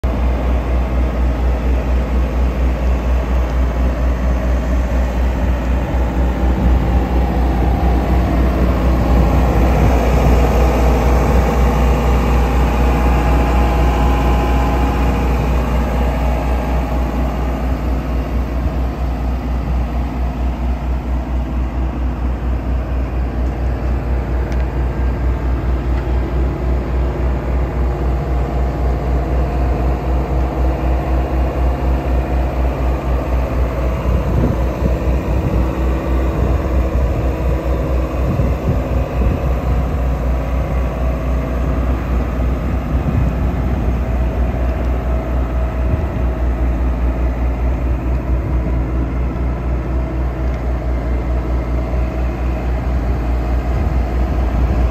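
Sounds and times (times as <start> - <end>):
diesel generator running: 0.0 - 54.9.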